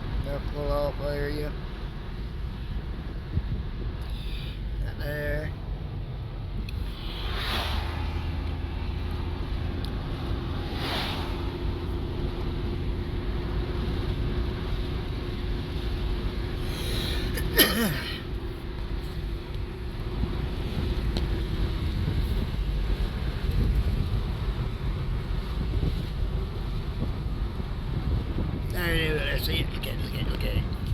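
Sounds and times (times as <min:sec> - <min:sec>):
car road noise rumble: 0:00.0 - 0:30.9.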